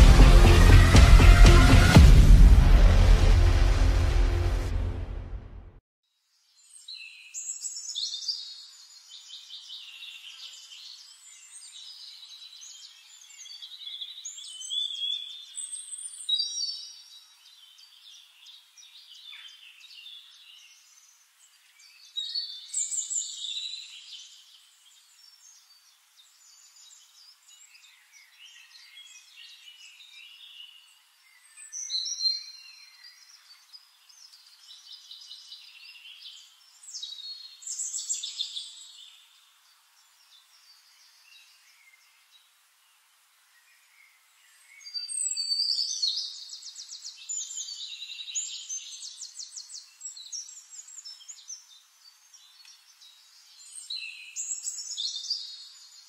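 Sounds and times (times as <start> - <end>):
songbirds singing: 6.4 - 56.0.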